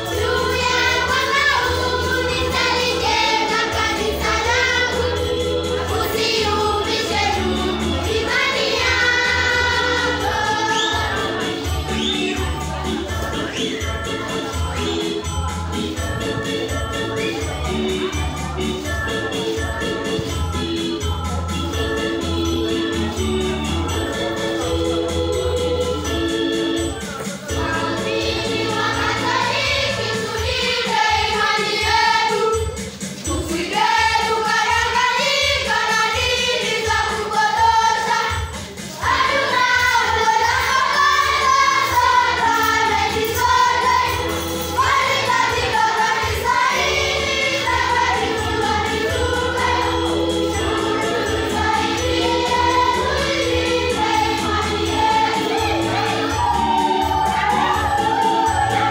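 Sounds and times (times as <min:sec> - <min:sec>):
choir singing a hymn: 0:00.0 - 0:21.4, 0:27.5 - 0:58.9
instrumental accompaniment: 0:00.0 - 0:58.9.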